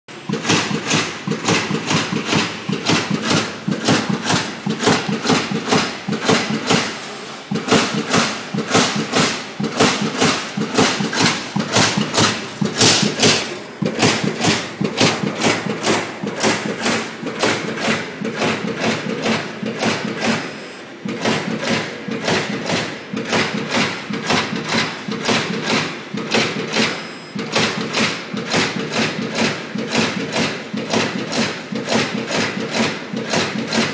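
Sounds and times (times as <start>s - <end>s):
punch press punching steel sheet: 0.1s - 33.9s.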